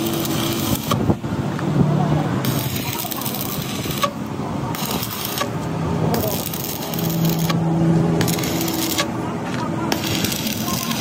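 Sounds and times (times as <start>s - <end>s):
busy workshop noise: 0.0s - 11.0s.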